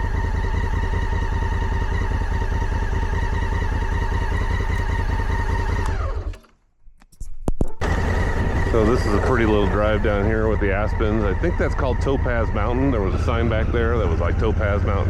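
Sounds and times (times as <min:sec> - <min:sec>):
motorcycle engine running: 0:00.0 - 0:06.4, 0:07.8 - 0:15.0.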